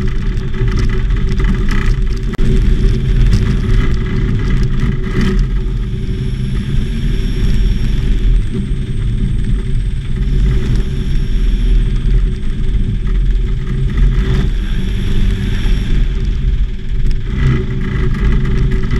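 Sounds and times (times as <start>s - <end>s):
aircraft engine and propeller running: 0.0s - 18.9s.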